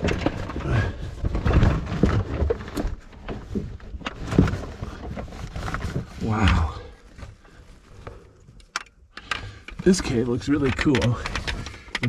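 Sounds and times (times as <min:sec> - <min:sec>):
scraping and shuffling on rock: 0:00.0 - 0:08.5, 0:09.4 - 0:12.0.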